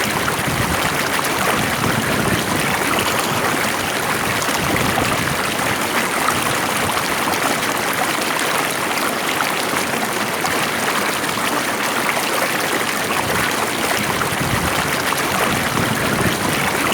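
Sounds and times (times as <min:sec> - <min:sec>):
stream of water flowing: 0:00.0 - 0:16.9.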